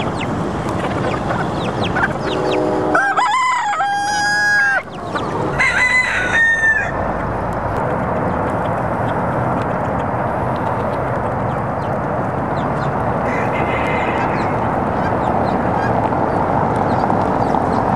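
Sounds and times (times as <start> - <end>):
chickens calling: 0.0 - 17.9
steady rushing noise: 0.0 - 17.9.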